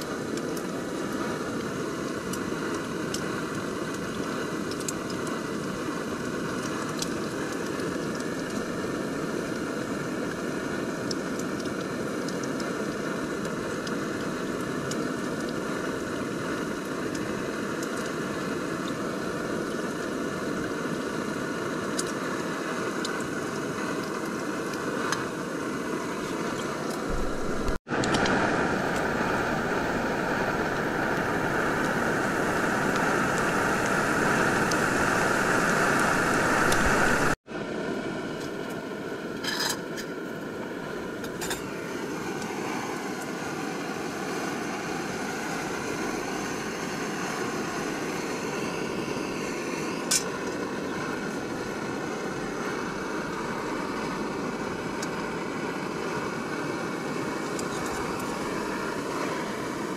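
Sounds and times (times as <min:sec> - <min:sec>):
gas stove burning with a hiss: 0:00.0 - 0:59.9.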